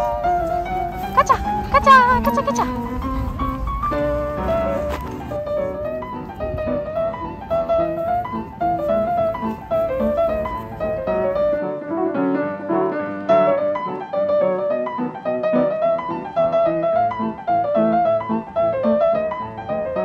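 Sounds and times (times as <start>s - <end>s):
solo piano piece: 0.0s - 20.0s.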